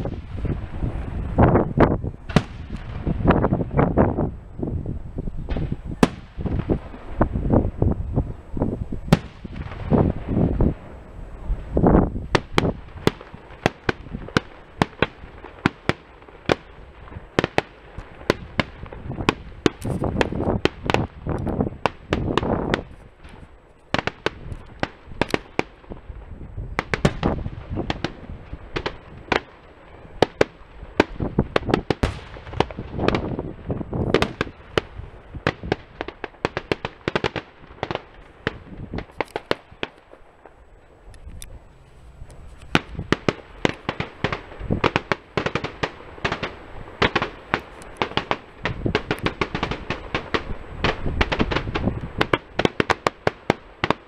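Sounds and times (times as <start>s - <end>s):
fireworks bangs and cracks: 0.0s - 40.6s, 42.6s - 54.0s.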